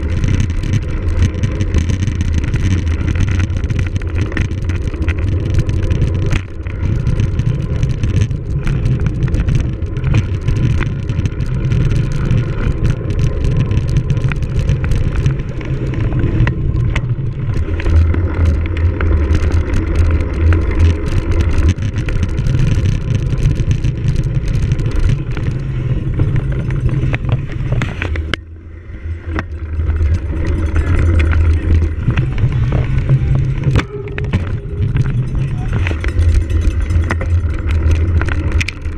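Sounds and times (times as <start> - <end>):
bike rattling over rough ground: 0.0 - 38.9
wind rumbling on microphone: 0.0 - 38.9.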